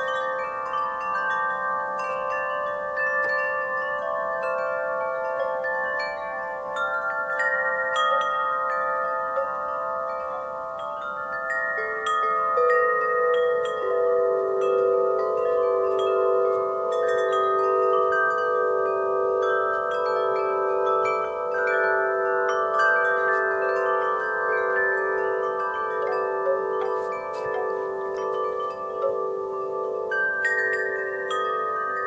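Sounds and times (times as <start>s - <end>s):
wind chimes ringing: 0.0s - 32.0s.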